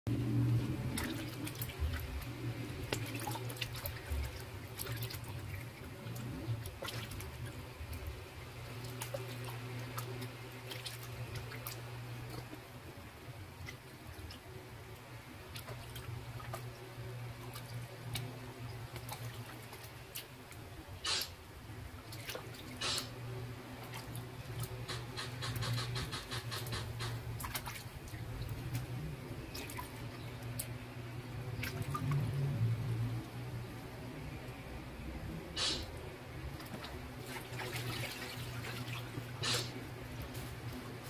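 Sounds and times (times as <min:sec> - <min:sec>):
low hum: 0:00.1 - 0:41.0
water splashing and dripping: 0:00.2 - 0:34.6, 0:35.5 - 0:41.0.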